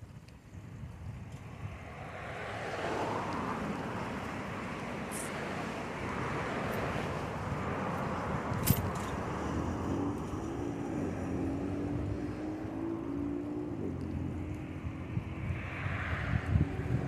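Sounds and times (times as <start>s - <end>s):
bicycle riding noise: 0.0s - 17.0s
low motor vehicle hum: 0.0s - 17.0s
wind: 0.0s - 17.0s.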